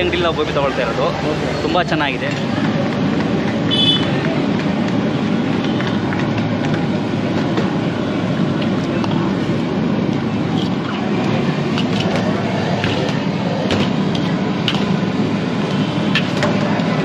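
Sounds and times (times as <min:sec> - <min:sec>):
busy street background roar: 0:00.0 - 0:17.0.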